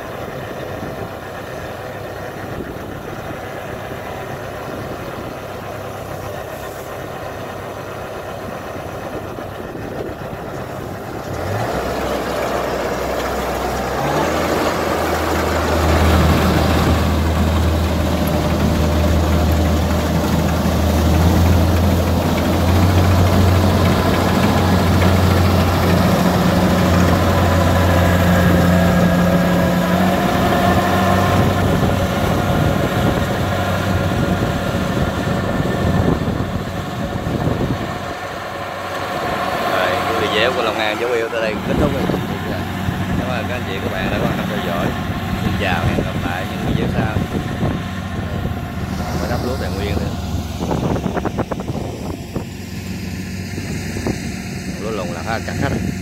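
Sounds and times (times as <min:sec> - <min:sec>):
combine harvester diesel engine: 0:00.0 - 0:56.0.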